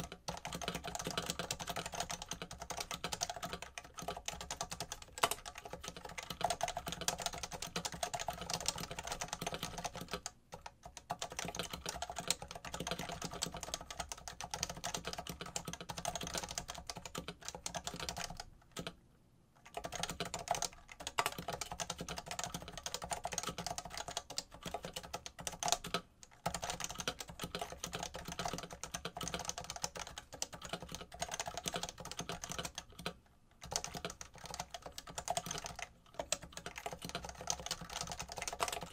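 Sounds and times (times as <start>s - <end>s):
fast typing on keyboard: 0.0s - 19.0s, 19.6s - 38.9s.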